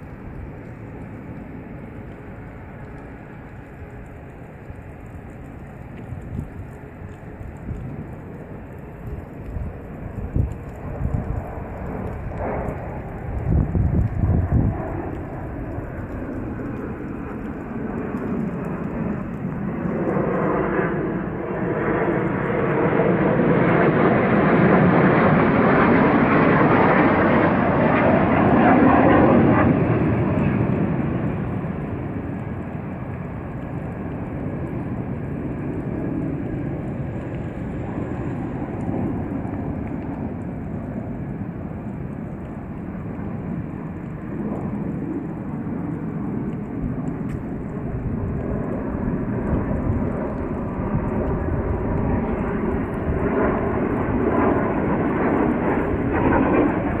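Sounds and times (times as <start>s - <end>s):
jets flying overhead: 0.0s - 57.0s.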